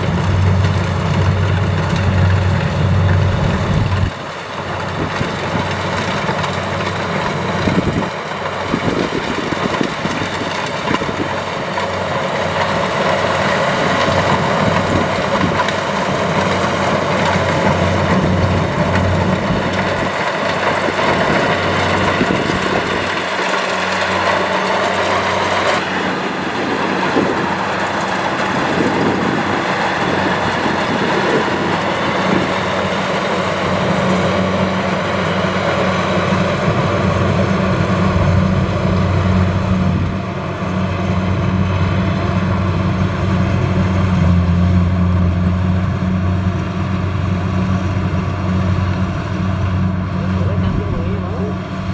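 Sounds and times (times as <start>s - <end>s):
combine harvester engine hum: 0.0s - 51.9s
machinery noise: 0.0s - 51.9s.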